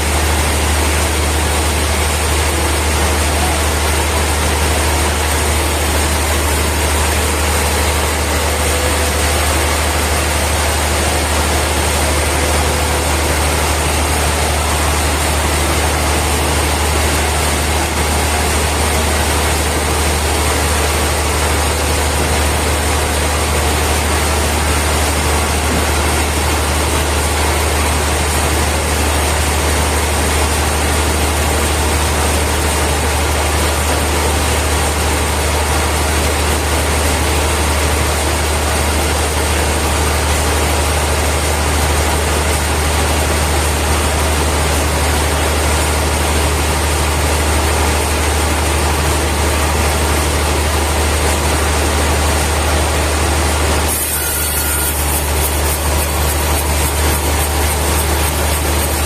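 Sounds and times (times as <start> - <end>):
heavy machinery humming: 0.0 - 59.0.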